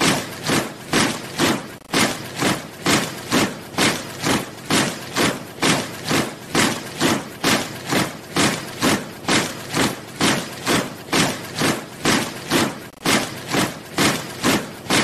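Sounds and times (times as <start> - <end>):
soldiers marching in step: 0.0 - 15.0.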